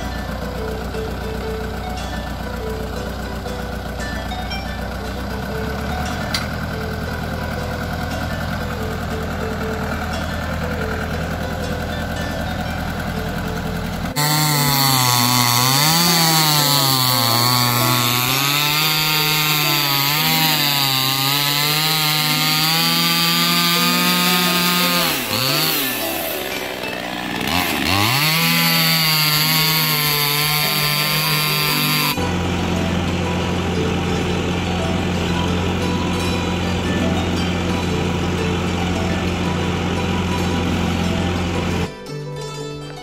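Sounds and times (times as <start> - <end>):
chainsaw cutting wood: 0.0 - 43.0
tractor engine running: 0.0 - 43.0.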